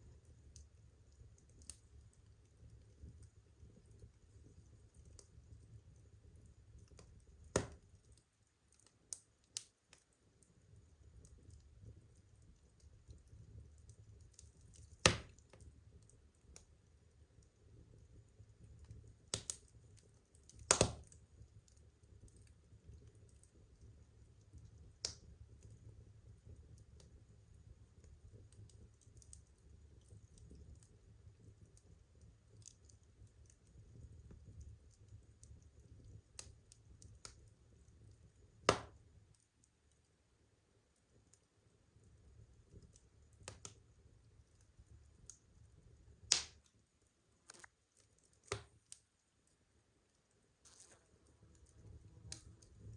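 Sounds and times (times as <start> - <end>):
firewood crackling and popping: 0.0 - 40.1, 40.9 - 46.8, 47.4 - 49.6, 50.6 - 52.9.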